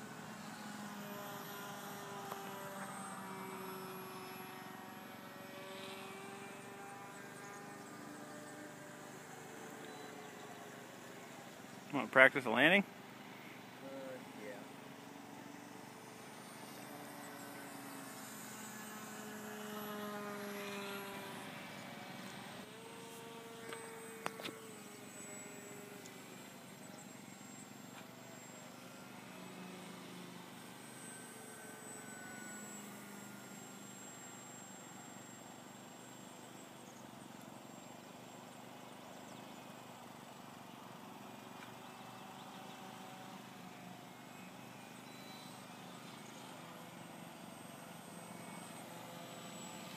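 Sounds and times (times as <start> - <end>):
model plane motor whine: 0.0 - 49.9.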